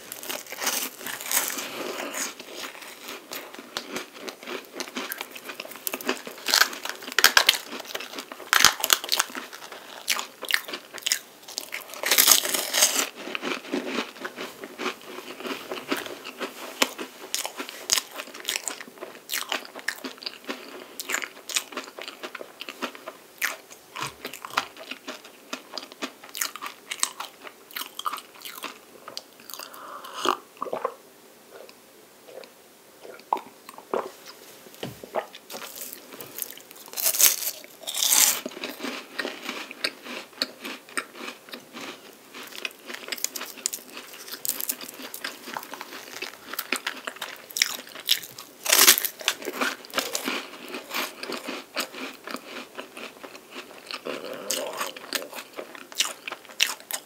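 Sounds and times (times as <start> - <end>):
crunching and chewing pastry: 0.0 - 30.8, 35.1 - 57.0.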